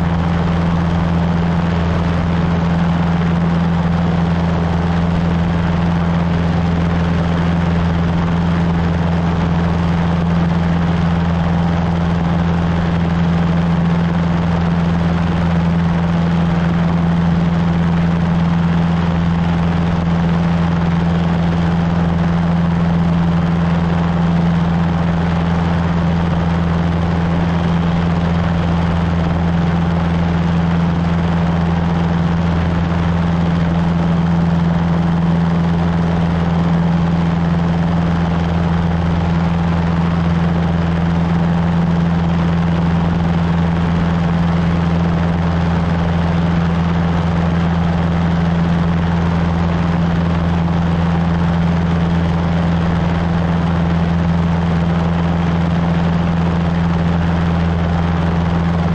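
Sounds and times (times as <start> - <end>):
light aircraft engine droning: 0.0 - 58.9.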